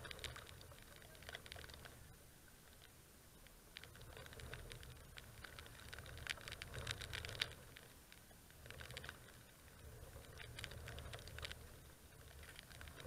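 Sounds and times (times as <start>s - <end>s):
light rain drops pattering: 0.0s - 13.0s.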